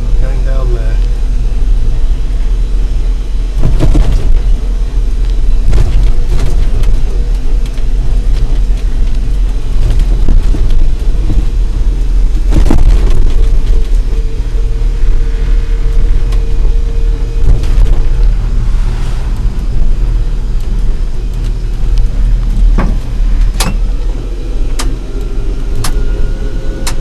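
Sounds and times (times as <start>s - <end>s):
truck rolling with low rumble: 0.0s - 27.0s.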